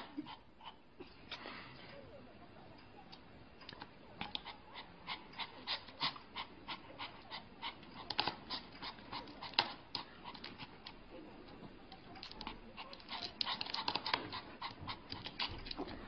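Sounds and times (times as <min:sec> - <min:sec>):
puppy panting: 0:00.0 - 0:01.2, 0:04.1 - 0:16.0.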